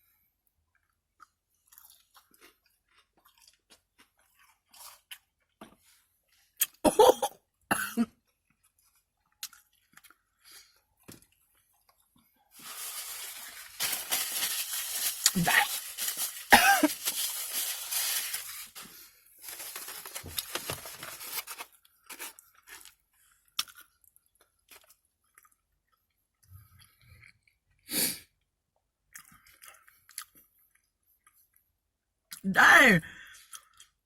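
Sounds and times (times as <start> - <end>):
chewing and crunching fried food: 0.0 - 6.8, 7.4 - 32.4, 33.2 - 34.0.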